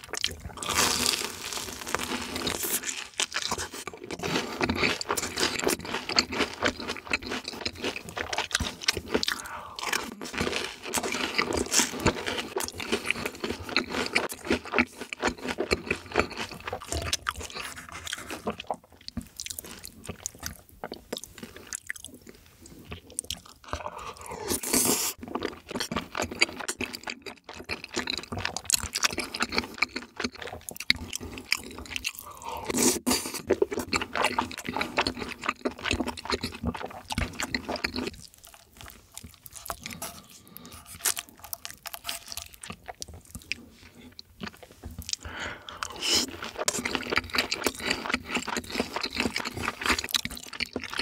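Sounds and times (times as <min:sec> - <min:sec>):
wet chewing: 0:00.0 - 0:51.0.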